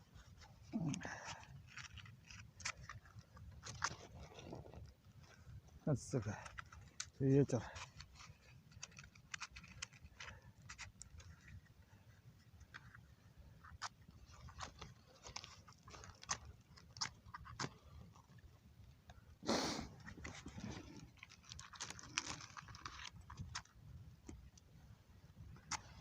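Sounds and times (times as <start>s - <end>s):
kindling crackling and snapping: 0.0s - 26.0s.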